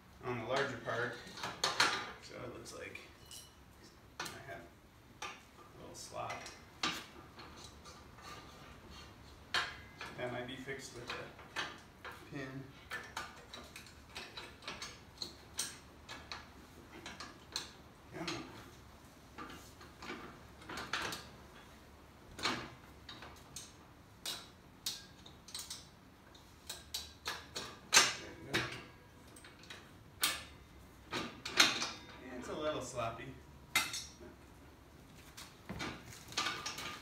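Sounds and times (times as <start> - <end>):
metallic clicks and clanks: 0.5 - 4.6, 5.2 - 32.5, 33.7 - 34.4, 35.2 - 37.0.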